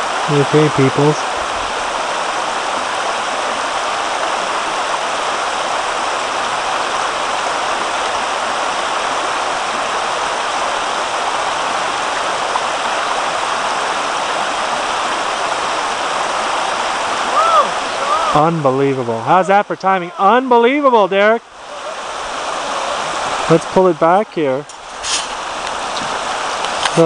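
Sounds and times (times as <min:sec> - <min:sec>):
river water rushing over gravel: 0:00.0 - 0:27.0.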